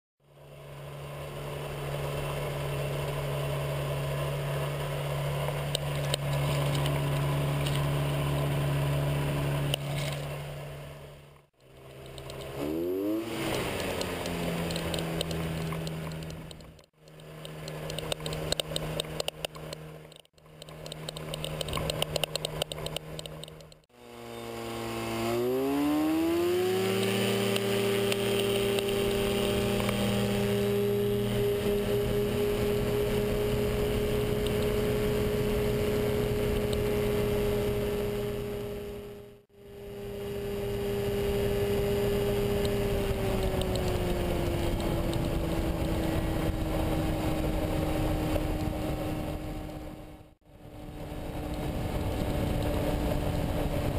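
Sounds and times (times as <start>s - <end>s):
microlight engine and propeller: 0.2s - 53.9s.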